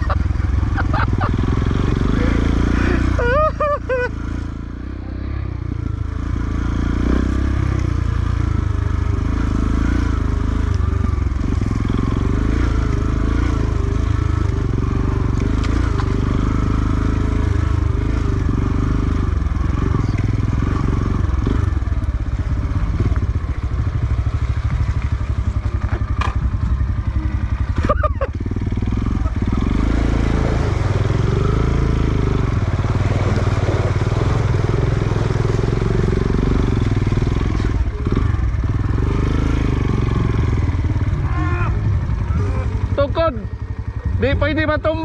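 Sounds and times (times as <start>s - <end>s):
motorcycle engine at low revs: 0.0s - 45.0s.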